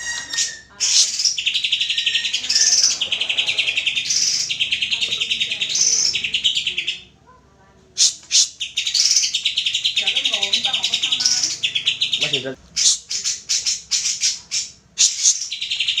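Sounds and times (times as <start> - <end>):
bird singing chattering trill: 0.0 - 7.2, 8.0 - 16.0
sharp bird calls: 0.0 - 7.2, 8.0 - 16.0.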